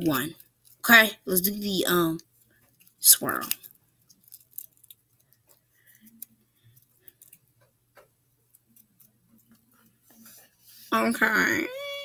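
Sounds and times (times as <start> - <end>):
slime being stirred: 0.0 - 10.8.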